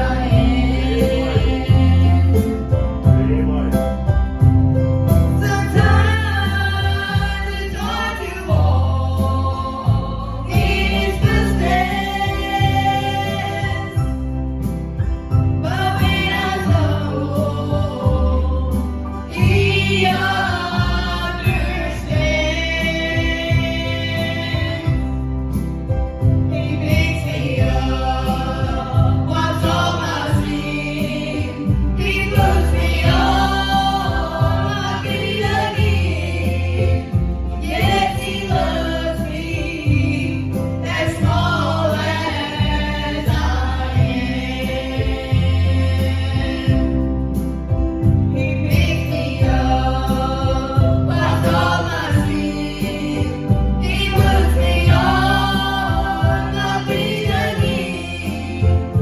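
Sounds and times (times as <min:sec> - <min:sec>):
acoustic guitar: 0:00.0 - 0:59.0
group singing gospel song: 0:00.0 - 0:59.0
piano: 0:00.0 - 0:59.0.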